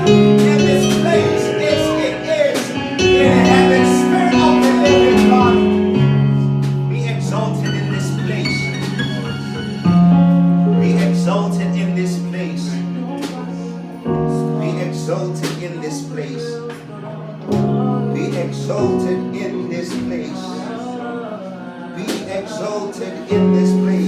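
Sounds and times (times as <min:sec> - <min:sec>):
held keyboard chords: 0:00.0 - 0:24.0.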